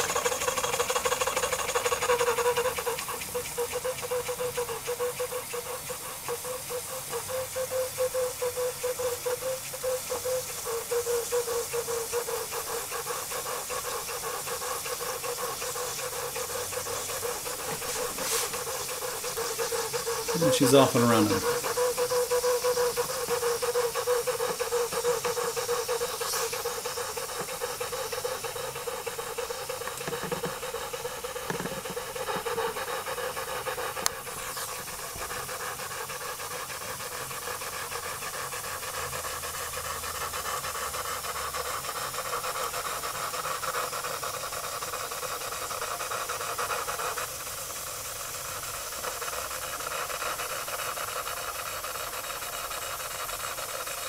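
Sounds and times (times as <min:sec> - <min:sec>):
steam engine exhaust hissing: 0:00.0 - 0:54.0.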